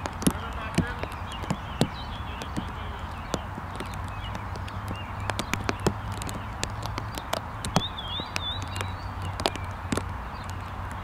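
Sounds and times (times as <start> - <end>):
birds chirping faintly: 0.0 - 11.0
irregular sharp clicks: 0.0 - 11.0.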